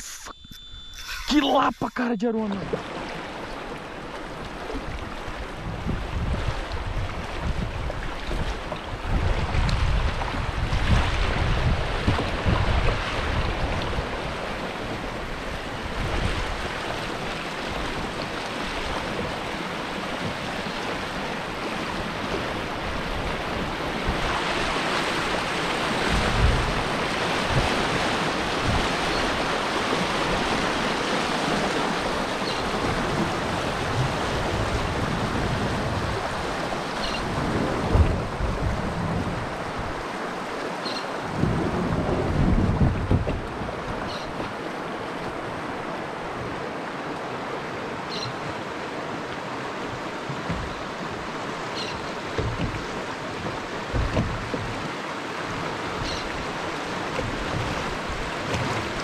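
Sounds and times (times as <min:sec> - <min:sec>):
rushing water: 0:01.3 - 0:59.0
wind rumbling on microphone: 0:02.5 - 0:40.6, 0:41.2 - 0:59.0.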